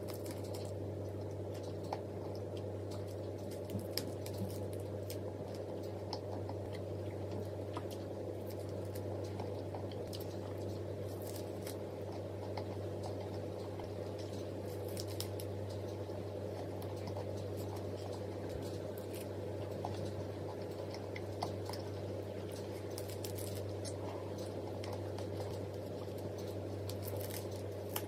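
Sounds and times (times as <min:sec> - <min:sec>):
soft eating sounds: 0:00.0 - 0:28.0
steady low hum: 0:00.0 - 0:28.0.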